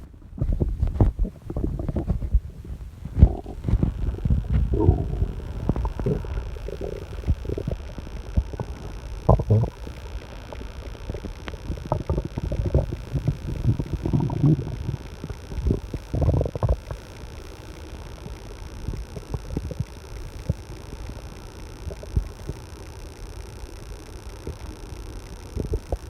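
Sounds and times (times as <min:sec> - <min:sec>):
stomach growling: 0:00.0 - 0:26.0.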